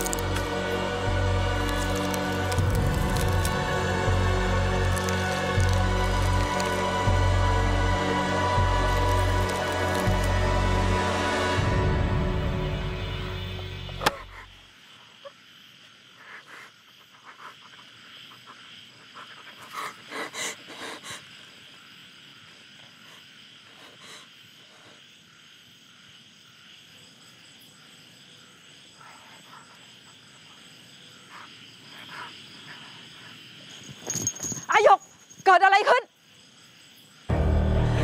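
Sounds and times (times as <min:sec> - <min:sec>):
frogs croaking: 0:00.0 - 0:38.0
insect trill: 0:00.0 - 0:38.0.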